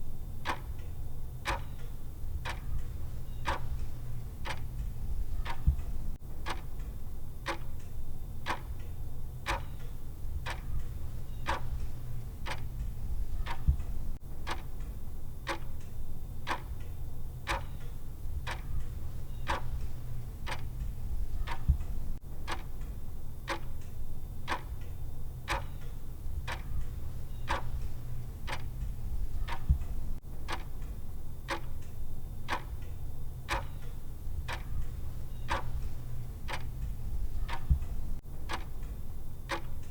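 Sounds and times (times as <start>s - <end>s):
clock ticking: 0.4s - 16.9s, 17.5s - 39.9s.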